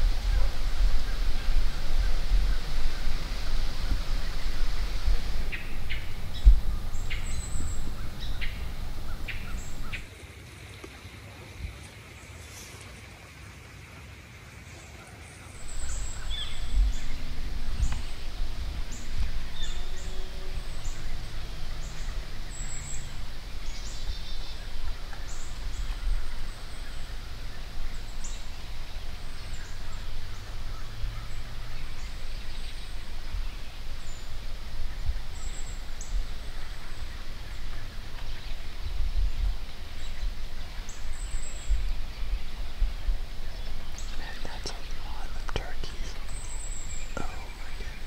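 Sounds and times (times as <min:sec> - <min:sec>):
low fluctuating rumble: 0:00.0 - 0:10.0, 0:15.6 - 0:48.0
small birds chirping: 0:00.0 - 0:10.1, 0:15.5 - 0:48.0.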